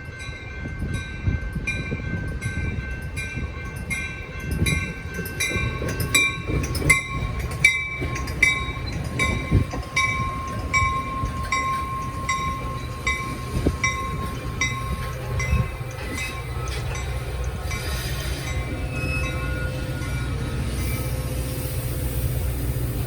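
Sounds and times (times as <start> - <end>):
train wheels rumbling over rails: 0.0 - 23.0.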